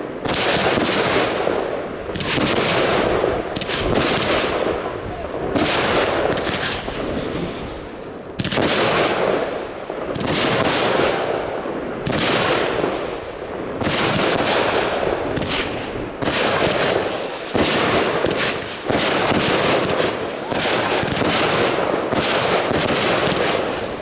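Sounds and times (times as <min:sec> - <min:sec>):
fireworks bangs: 0:00.0 - 0:24.0
fireworks crackle: 0:00.0 - 0:24.0.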